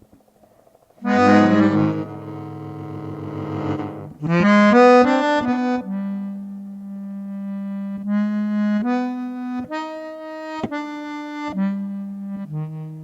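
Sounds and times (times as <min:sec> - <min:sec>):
melodica held notes with reverb: 0:01.0 - 0:13.0.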